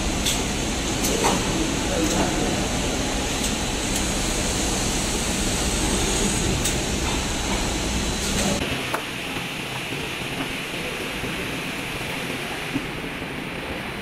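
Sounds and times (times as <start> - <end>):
machine hum and hiss: 0.0 - 14.0.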